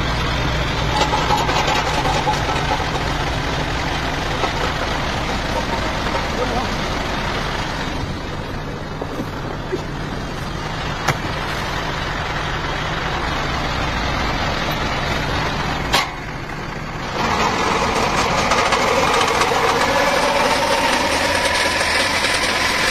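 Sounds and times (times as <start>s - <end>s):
water pump running: 0.0s - 13.9s, 14.7s - 22.9s
tractor engine running: 0.0s - 22.9s.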